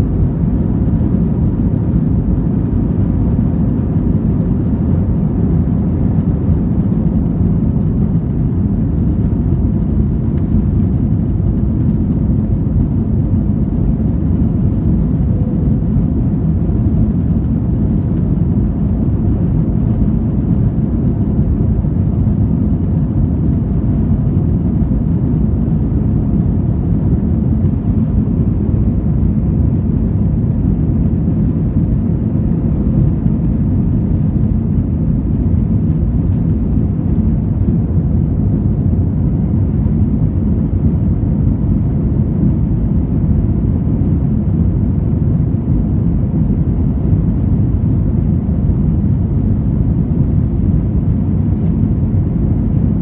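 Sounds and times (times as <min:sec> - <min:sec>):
jet engines roaring at takeoff: 0:00.0 - 0:53.0.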